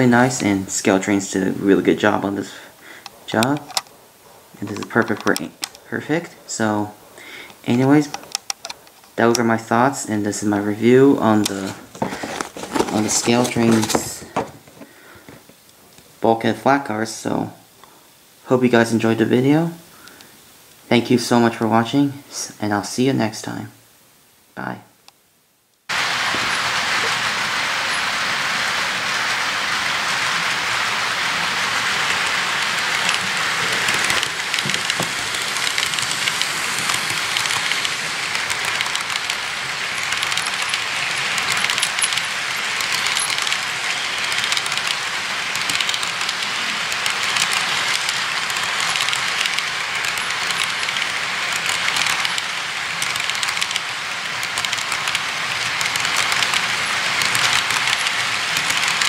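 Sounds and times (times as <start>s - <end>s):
clicks of wheels on rail joints: 0.0s - 9.7s, 10.3s - 16.1s, 25.9s - 59.0s
model train wheels rattling on rails: 0.0s - 15.7s, 25.9s - 59.0s.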